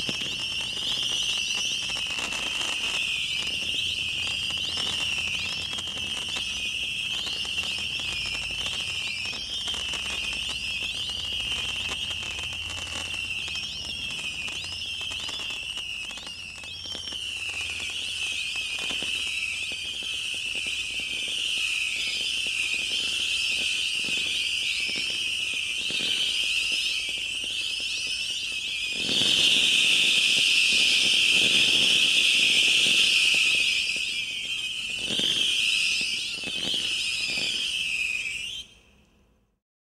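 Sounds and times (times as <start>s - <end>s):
firework crackles and bangs: 0.0s - 38.7s
whistling firework missiles: 0.0s - 39.6s.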